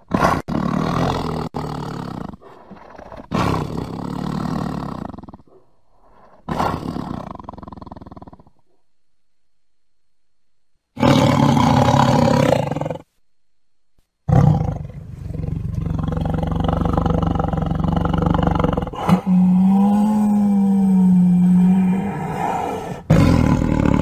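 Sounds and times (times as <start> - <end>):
tiger roaring: 0.0 - 8.5, 11.0 - 13.1, 14.3 - 24.0.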